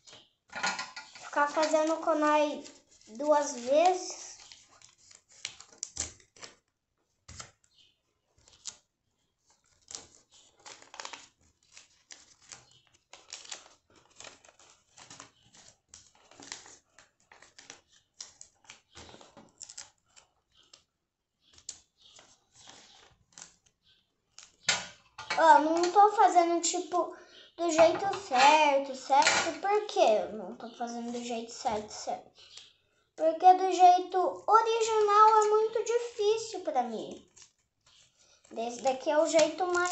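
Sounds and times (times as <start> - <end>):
paper rustling and crinkling: 1.0 - 27.0, 27.6 - 32.7, 33.3 - 39.9.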